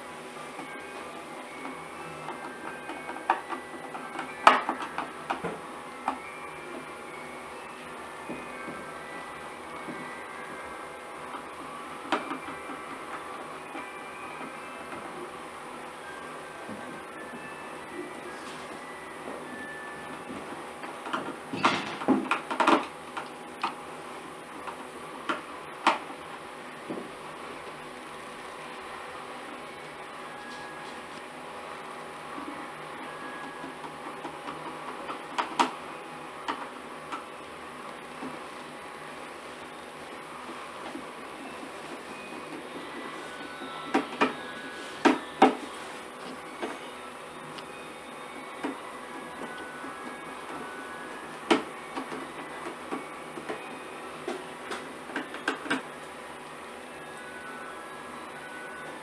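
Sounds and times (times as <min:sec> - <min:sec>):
steady room hum: 0:00.0 - 0:59.0.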